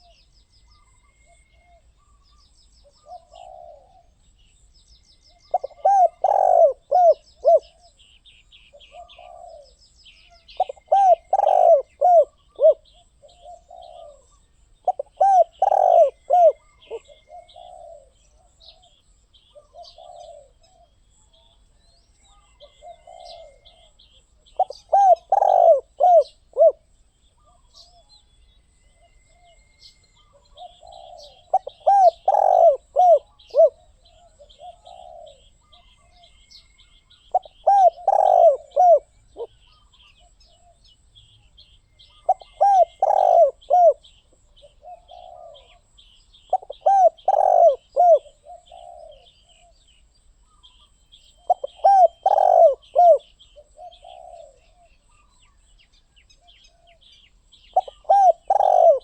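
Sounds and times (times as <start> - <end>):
dove cooing: 0.0 - 4.3, 5.2 - 21.6, 22.2 - 28.2, 30.2 - 55.5, 56.4 - 59.0
small birds chirping: 0.0 - 59.0.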